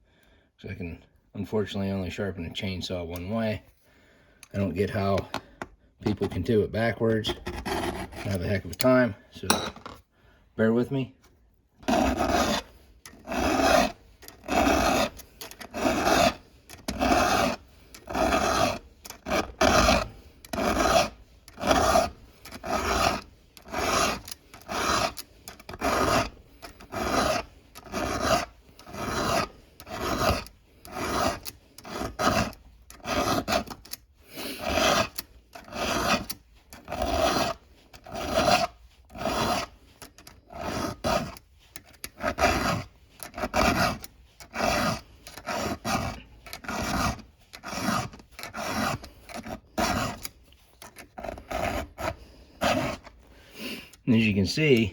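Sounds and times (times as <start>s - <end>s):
hand file rasping on metal: 6.1s - 10.0s, 11.8s - 54.9s.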